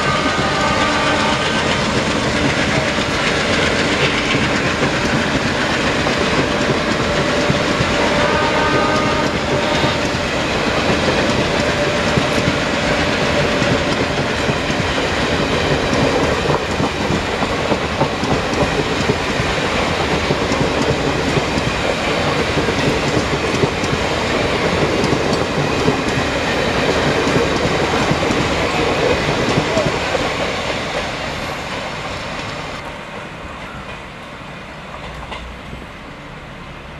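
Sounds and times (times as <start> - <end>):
train rumbling and rattling: 0.0 - 36.9
wheels clacking over rail joints: 0.4 - 32.6.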